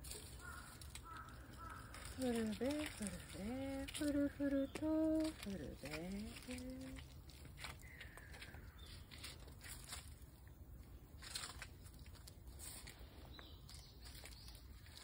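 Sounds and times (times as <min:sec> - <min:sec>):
faint rustles: 0:00.0 - 0:15.0.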